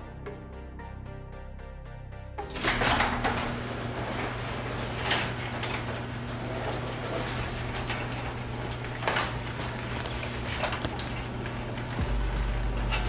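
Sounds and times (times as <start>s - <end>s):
steady hum: 2.2s - 13.0s
garage door rolling open: 2.4s - 13.0s.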